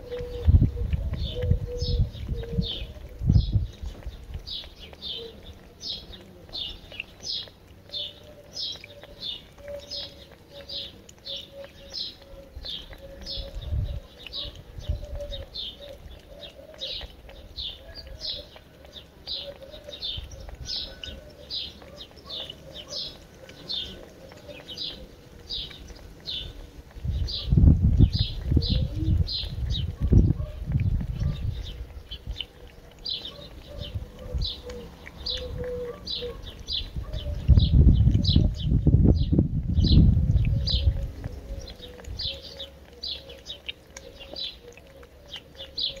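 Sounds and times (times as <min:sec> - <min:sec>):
faint dove cooing: 0:00.0 - 0:03.6, 0:05.0 - 0:06.8, 0:07.9 - 0:27.5, 0:28.2 - 0:38.6, 0:40.3 - 0:46.0
small bird chirping: 0:00.1 - 0:38.7, 0:40.0 - 0:46.0.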